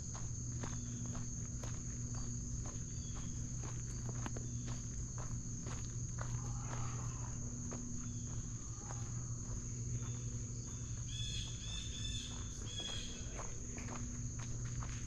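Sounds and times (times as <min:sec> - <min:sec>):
footsteps on dirt trail: 0:00.0 - 0:15.0
high-pitched insect chorus: 0:00.0 - 0:15.0.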